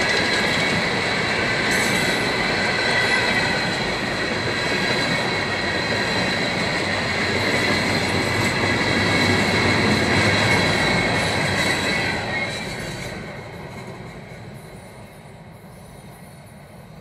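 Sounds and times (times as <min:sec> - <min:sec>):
freight train cars rumbling past: 0:00.0 - 0:17.0.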